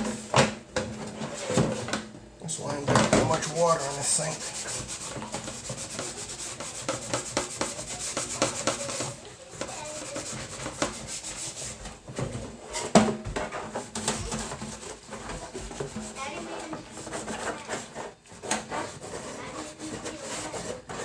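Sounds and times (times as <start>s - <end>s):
scrubbing plastic: 2.6s - 21.0s.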